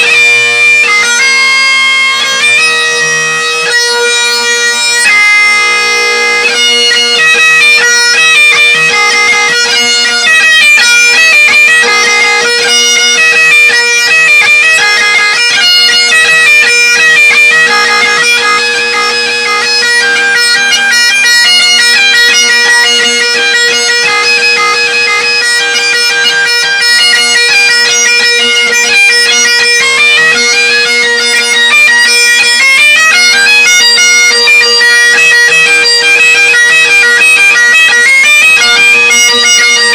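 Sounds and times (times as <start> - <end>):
bagpipes playing loudly: 0.0 - 39.9.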